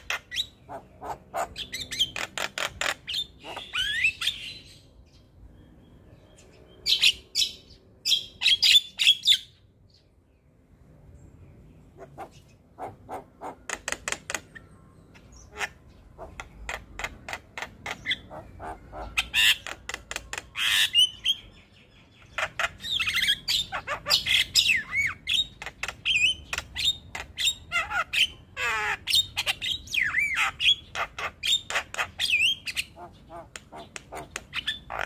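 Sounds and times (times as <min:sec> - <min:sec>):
bird singing varied song: 0:00.0 - 0:35.0.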